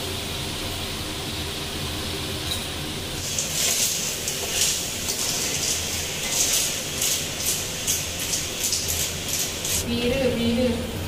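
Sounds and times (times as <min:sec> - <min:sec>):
snails sizzling in hot oil: 0:00.0 - 0:10.1.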